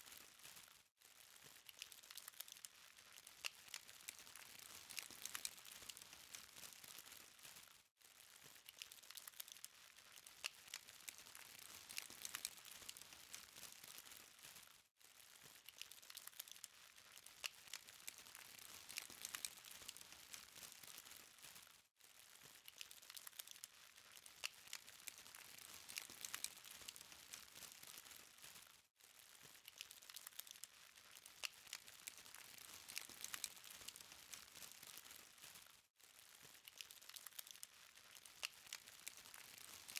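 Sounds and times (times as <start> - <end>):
charcoal fire crackling: 0.0 - 39.9.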